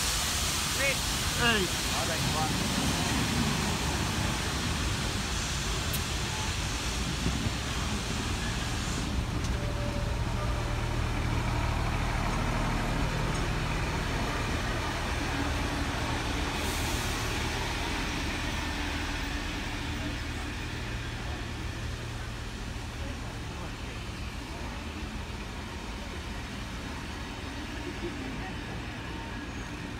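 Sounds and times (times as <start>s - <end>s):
train carriages rolling on rails: 0.0s - 29.9s.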